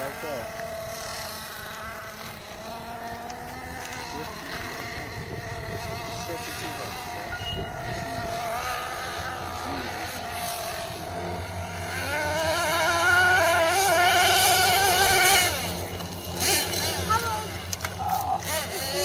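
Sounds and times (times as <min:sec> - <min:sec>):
small nitro engine running: 0:00.0 - 0:19.0.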